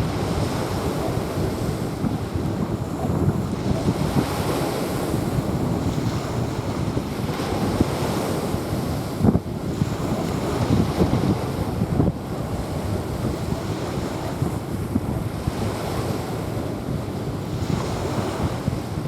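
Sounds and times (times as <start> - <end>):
waves washing onto sand: 0.0 - 19.0
wind rumbling on microphone: 0.0 - 19.0.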